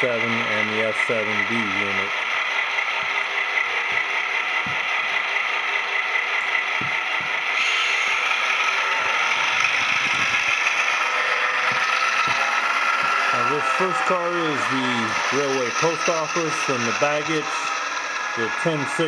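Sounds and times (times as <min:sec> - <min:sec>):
diesel locomotive engine sounds: 0:00.0 - 0:19.0
wheels clicking over rails: 0:00.0 - 0:19.0
model train hiss and whir: 0:00.2 - 0:19.0.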